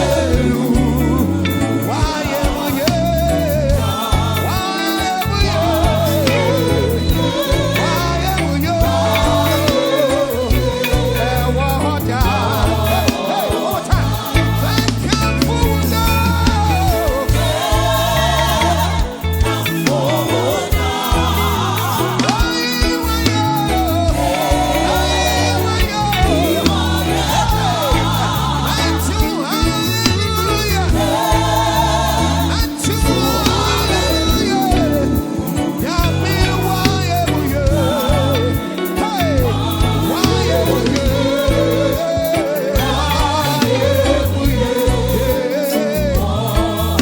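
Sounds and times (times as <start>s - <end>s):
lead singer and choir singing: 0.0s - 47.0s
live gospel band: 0.0s - 47.0s.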